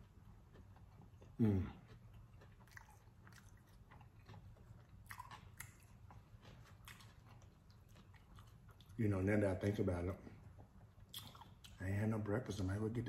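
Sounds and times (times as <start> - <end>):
person chewing crunchy food: 0.0 - 9.0, 10.4 - 11.8.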